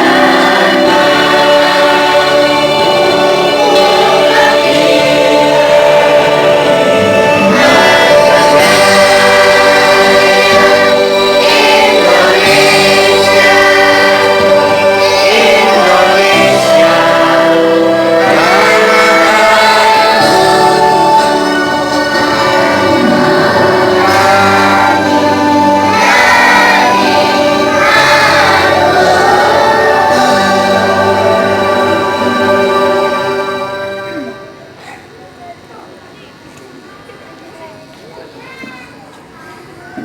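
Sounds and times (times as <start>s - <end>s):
school choir singing: 0.0s - 34.6s.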